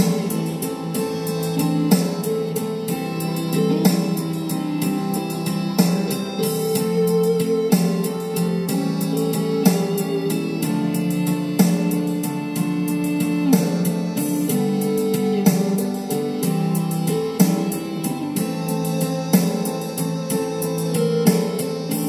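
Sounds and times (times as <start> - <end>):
guitar: 0.0 - 22.0
keyboard melody of held notes: 0.0 - 22.0.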